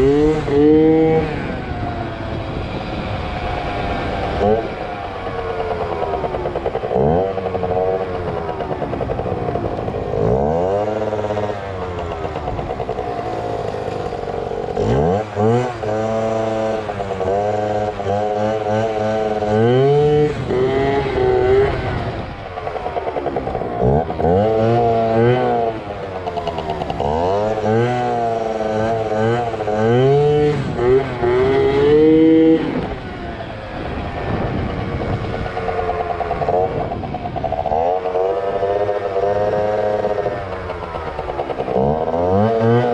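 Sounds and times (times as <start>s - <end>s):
scooter engine revving hard: 0.0s - 42.9s.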